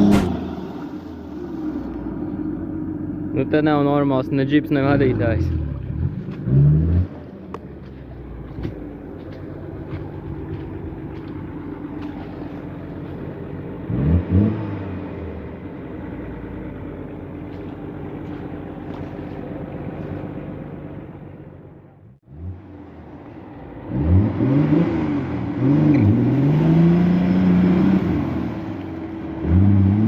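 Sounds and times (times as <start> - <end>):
off-road vehicle engine revving: 0.0 - 21.2, 22.1 - 30.0.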